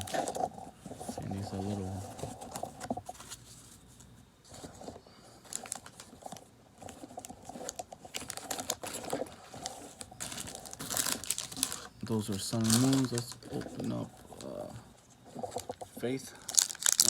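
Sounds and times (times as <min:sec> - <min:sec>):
trading cards being handled: 0:01.0 - 0:17.0.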